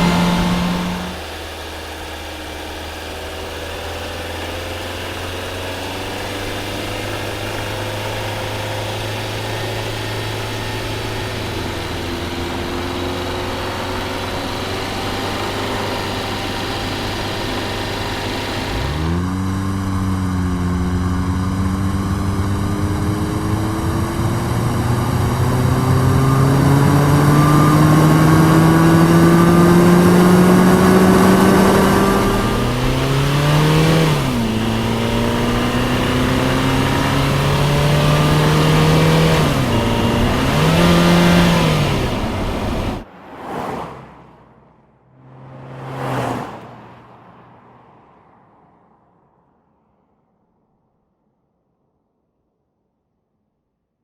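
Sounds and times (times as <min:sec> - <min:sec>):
car engine accelerating: 0:00.0 - 0:48.3.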